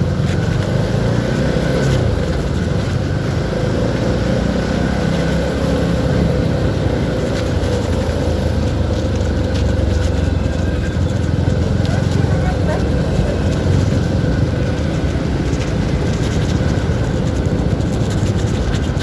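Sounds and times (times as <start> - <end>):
motorcycle engine rumble: 0.0 - 19.0
wind noise: 0.0 - 19.0.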